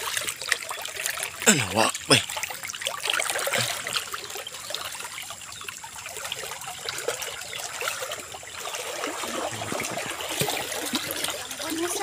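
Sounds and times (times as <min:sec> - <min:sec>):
creek water trickling: 0:00.0 - 0:12.0
small water splashes: 0:00.0 - 0:12.0.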